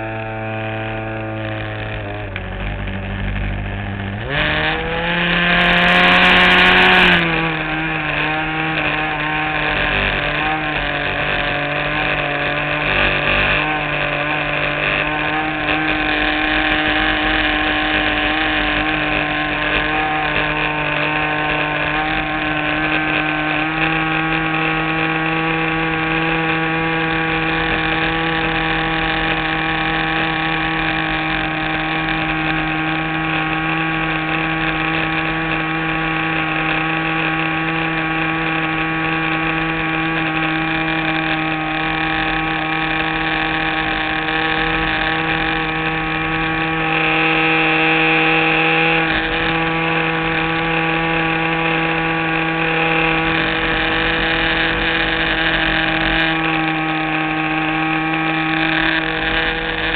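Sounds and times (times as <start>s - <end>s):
model plane engine running: 0.0s - 59.9s.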